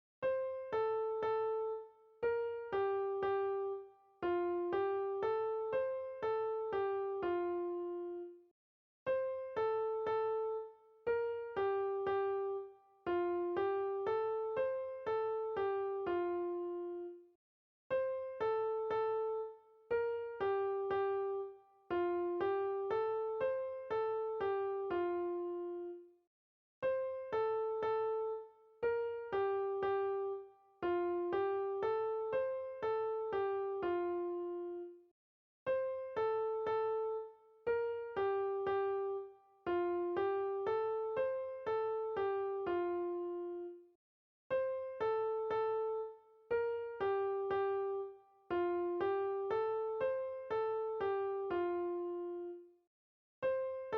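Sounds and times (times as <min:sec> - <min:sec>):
electric piano melody: 0:00.2 - 0:08.3, 0:09.1 - 0:17.2, 0:17.9 - 0:26.0, 0:26.8 - 0:34.9, 0:35.7 - 0:43.8, 0:44.5 - 0:52.6, 0:53.4 - 0:53.9.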